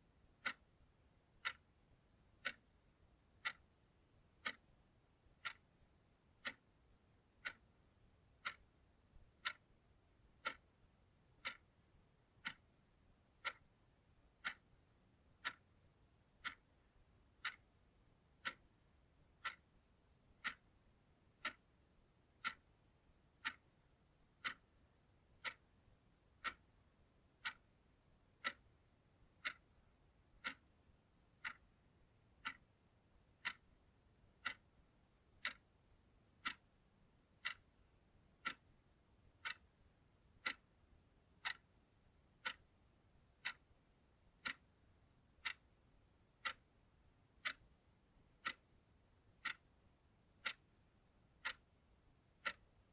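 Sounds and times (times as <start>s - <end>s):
clock ticking: 0.0s - 52.9s.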